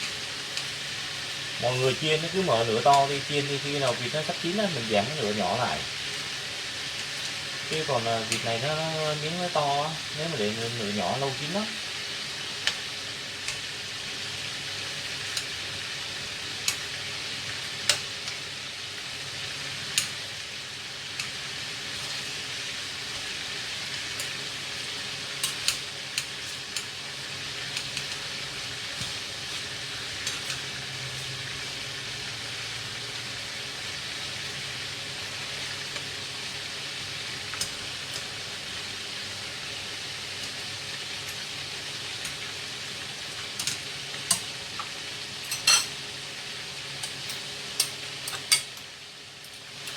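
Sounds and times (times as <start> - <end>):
meat sizzling in hot oil: 0.0 - 49.9
sharp clicks of frying: 0.0 - 49.9.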